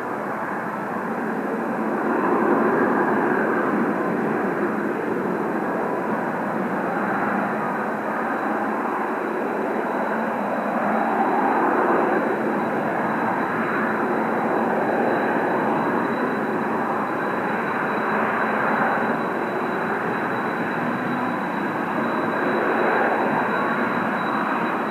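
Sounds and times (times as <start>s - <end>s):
jet engine roar: 0.0s - 24.9s.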